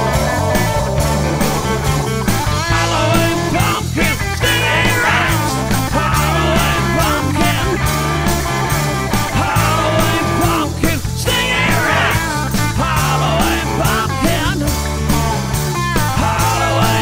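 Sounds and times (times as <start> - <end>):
bass and drums: 0.0 - 17.0
electric guitar lead: 0.0 - 17.0.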